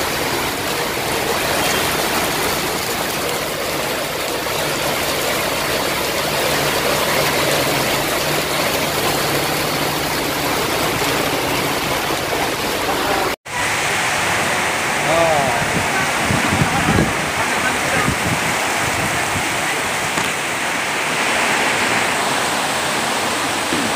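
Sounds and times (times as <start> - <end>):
floodwater running over street: 0.0 - 23.9
heavy rain pouring: 0.0 - 23.9.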